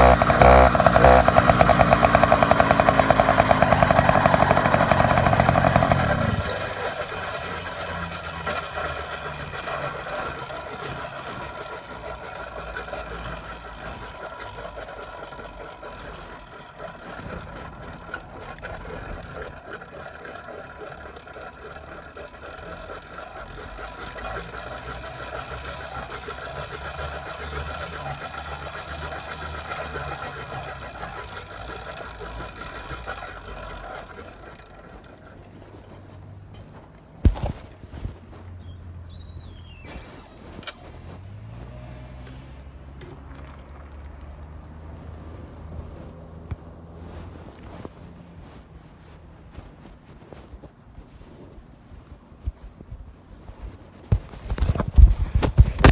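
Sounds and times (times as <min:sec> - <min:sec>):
small engine running: 0:00.0 - 0:48.6, 0:54.1 - 0:55.9.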